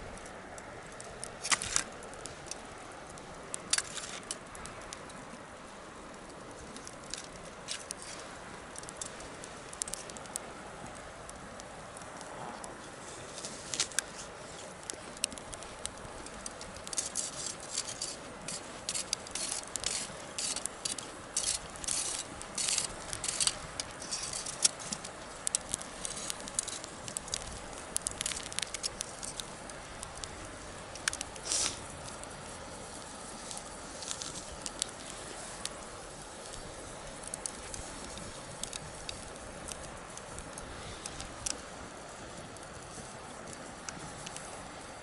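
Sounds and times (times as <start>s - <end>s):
wood bonfire crackling: 0.0s - 45.0s.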